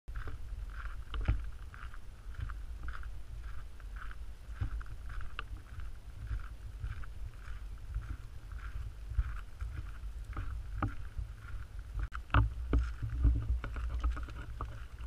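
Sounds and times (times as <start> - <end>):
footsteps crunching on gravel: 0.1 - 15.0
steady low rumble: 0.1 - 15.0.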